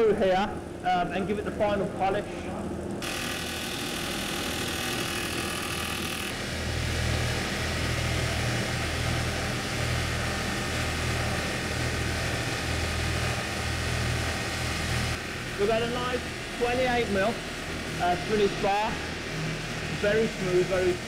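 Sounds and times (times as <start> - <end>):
polishing machine humming: 3.0 - 21.0.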